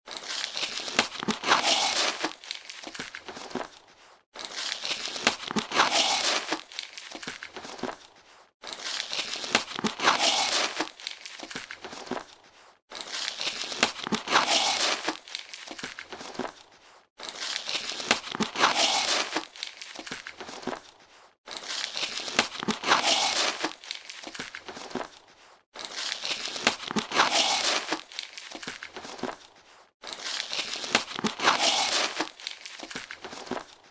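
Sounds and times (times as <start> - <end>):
sealing tape tearing: 0.1 - 3.5, 4.4 - 7.8, 8.6 - 11.9, 13.0 - 16.2, 17.3 - 20.5, 21.5 - 24.9, 25.8 - 29.2, 30.0 - 33.8.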